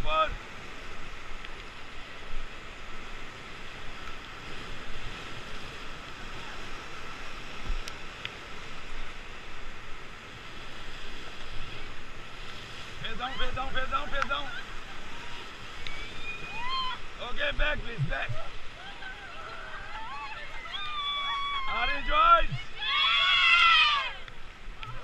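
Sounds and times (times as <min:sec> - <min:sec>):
rapids rushing and splashing: 0:00.0 - 0:25.0.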